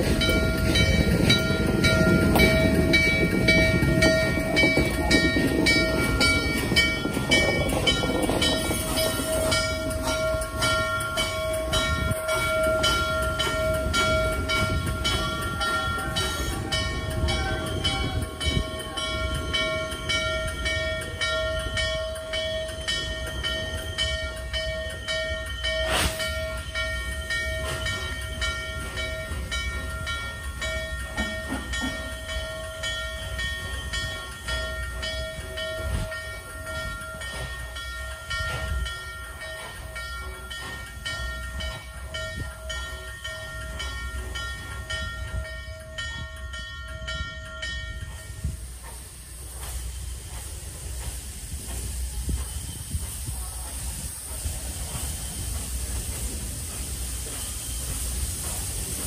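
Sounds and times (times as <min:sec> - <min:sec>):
steam locomotive running: 0:00.0 - 0:59.0.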